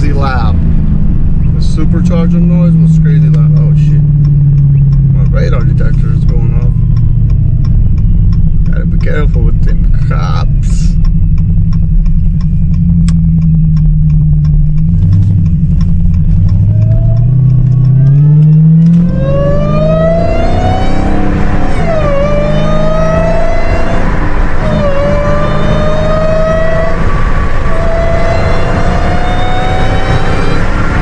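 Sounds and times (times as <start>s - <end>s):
car engine accelerating: 0.0s - 31.0s
supercharger whine: 0.0s - 31.0s.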